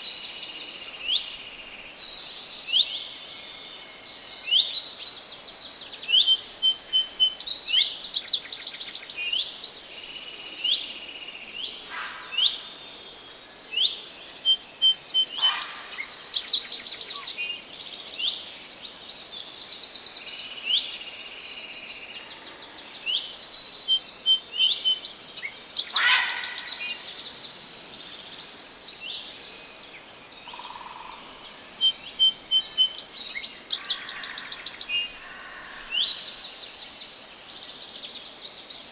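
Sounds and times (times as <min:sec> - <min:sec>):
faint background hiss: 0:00.0 - 0:38.9
songbirds singing: 0:00.0 - 0:38.9.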